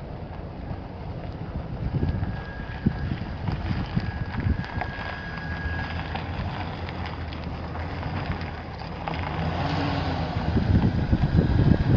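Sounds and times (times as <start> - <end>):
pickup truck engine running: 0.0 - 11.9
wind buffeting microphone: 0.5 - 11.9.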